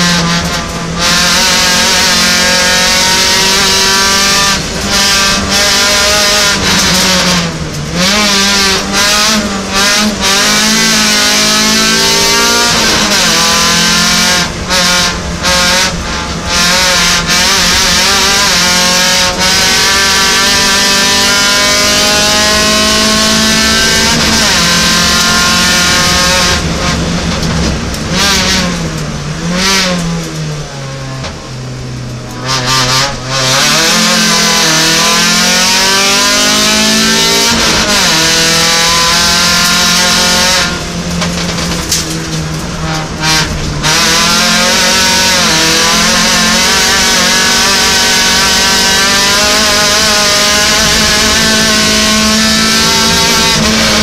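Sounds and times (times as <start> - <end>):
car engine at racing revs: 0.0 - 54.0.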